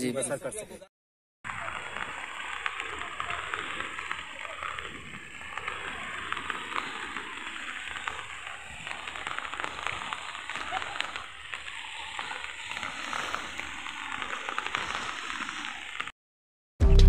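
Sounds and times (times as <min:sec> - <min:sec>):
rain hissing: 0:01.5 - 0:16.1
raindrops ticking: 0:01.5 - 0:16.1.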